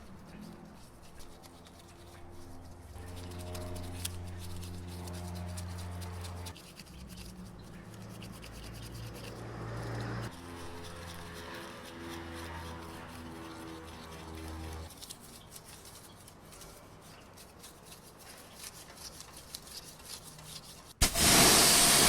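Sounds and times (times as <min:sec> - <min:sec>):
brush scrubbing: 0:00.0 - 0:22.0.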